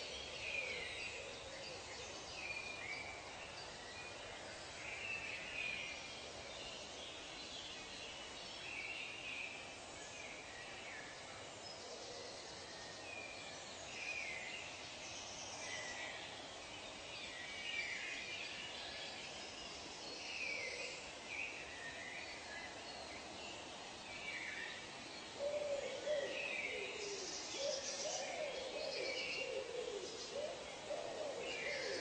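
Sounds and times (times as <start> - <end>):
faint high hiss: 0.0 - 32.0.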